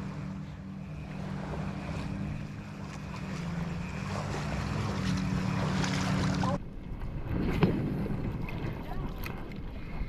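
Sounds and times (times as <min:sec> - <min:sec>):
motorboat engine running: 0:00.0 - 0:10.0
wind and water hiss: 0:00.0 - 0:10.0.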